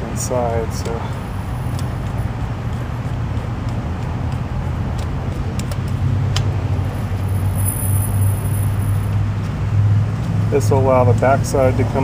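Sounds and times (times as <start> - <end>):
low traffic hum: 0.0 - 12.0.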